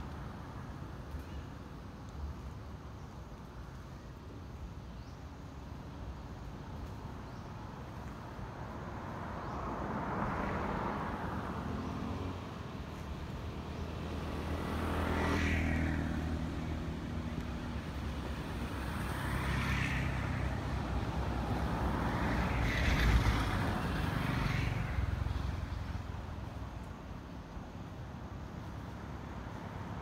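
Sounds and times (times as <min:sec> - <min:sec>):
vehicles passing: 0:05.8 - 0:30.0.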